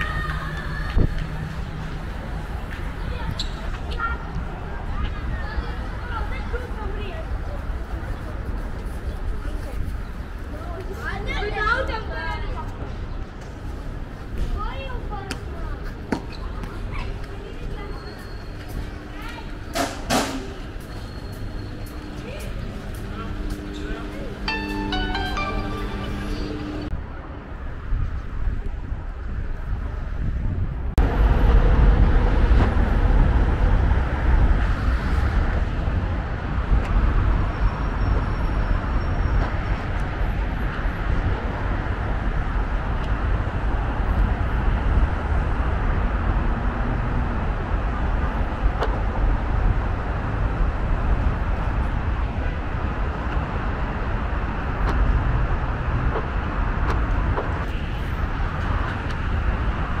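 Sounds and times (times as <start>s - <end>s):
road traffic passing: 0.0s - 60.0s.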